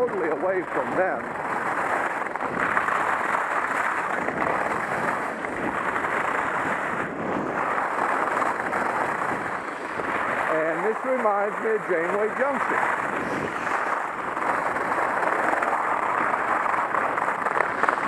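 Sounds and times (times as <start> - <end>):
skis sliding over snow: 0.0 - 18.0
wind on microphone: 0.0 - 18.0.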